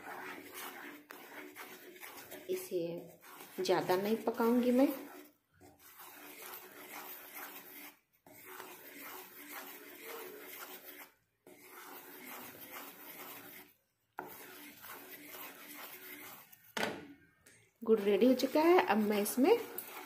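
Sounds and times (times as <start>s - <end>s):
syrup bubbling: 0.0s - 16.5s
wooden spatula scraping pan: 0.0s - 17.2s, 17.8s - 20.0s.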